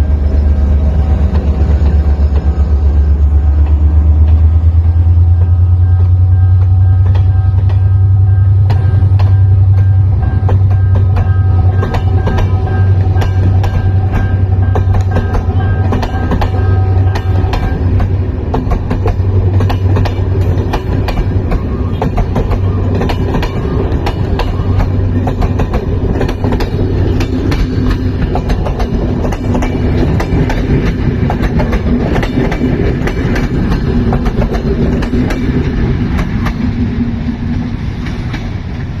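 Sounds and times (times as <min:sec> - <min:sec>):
diesel locomotive engine hum: 0:00.0 - 0:39.0
train wheels clickety-clack: 0:00.0 - 0:39.0
high steady tones: 0:04.8 - 0:36.9.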